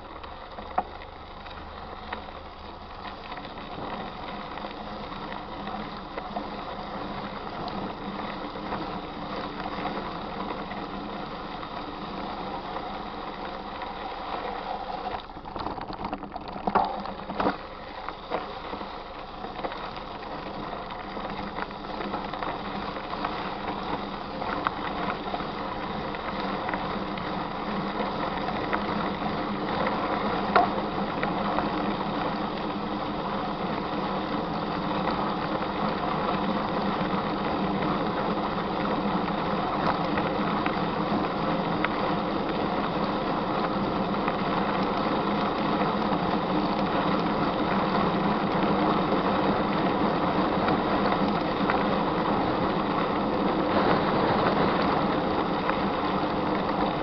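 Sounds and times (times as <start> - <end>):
bike tyres rattling on gravel: 0.0 - 57.0.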